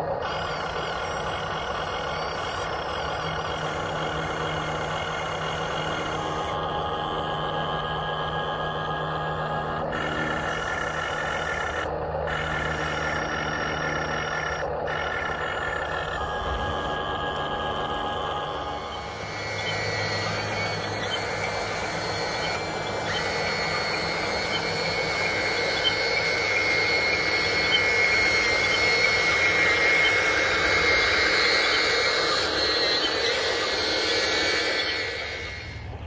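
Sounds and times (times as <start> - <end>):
electric motors whining: 0.0 - 36.0.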